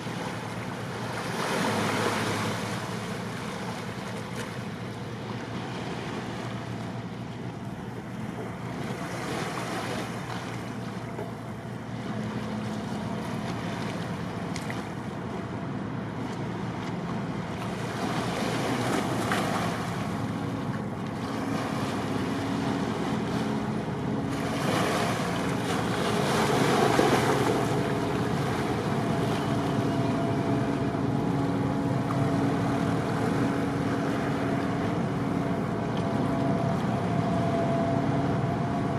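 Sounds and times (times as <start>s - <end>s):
ferry engines humming: 0.0s - 38.9s
rushing wind and water: 0.0s - 38.9s.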